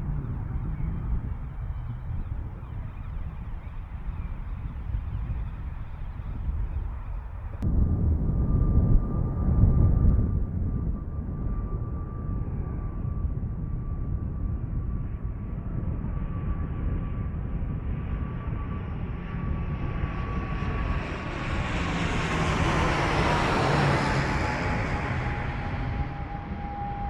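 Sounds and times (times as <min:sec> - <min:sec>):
airliner engine whine: 0:00.0 - 0:27.0.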